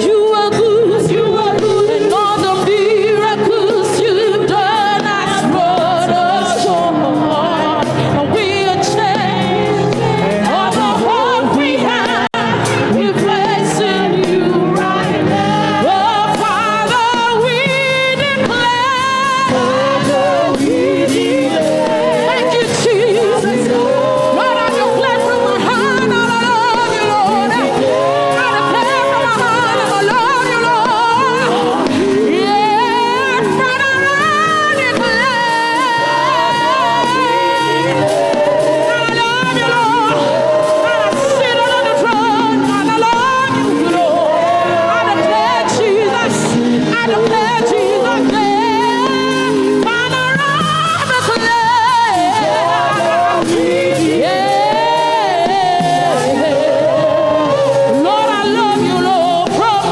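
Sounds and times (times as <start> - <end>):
instrumental backing: 0.0 - 59.9
person singing gospel: 0.0 - 59.9.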